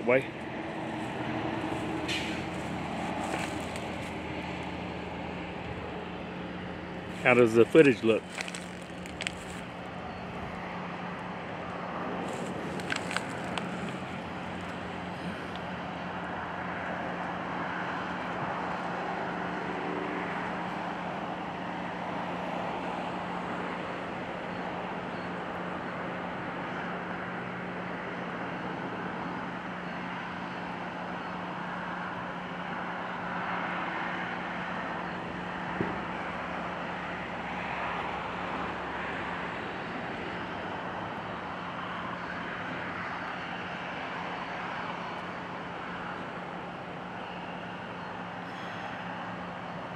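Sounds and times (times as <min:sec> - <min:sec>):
cars passing: 0:00.0 - 0:49.9.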